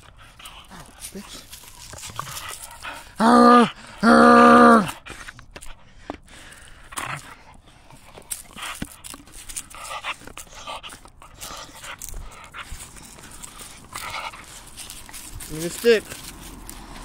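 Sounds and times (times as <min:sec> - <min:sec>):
teeth crunching on wood: 0:00.0 - 0:03.2, 0:04.9 - 0:17.0
dog panting: 0:00.0 - 0:04.0, 0:04.9 - 0:17.0.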